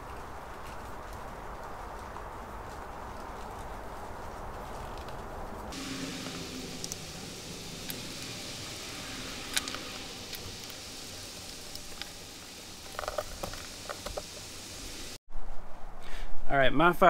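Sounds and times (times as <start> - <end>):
steady background hiss: 0.0 - 15.8.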